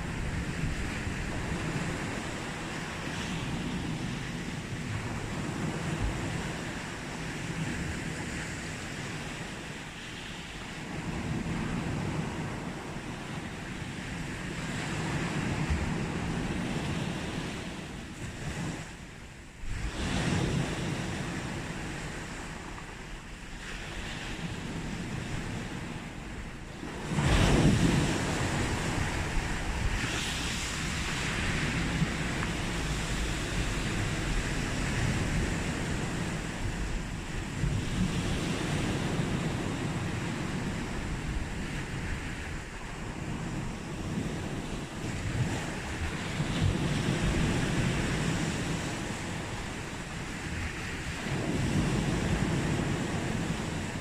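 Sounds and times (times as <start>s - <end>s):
sea waves breaking on beach: 0.0s - 54.0s.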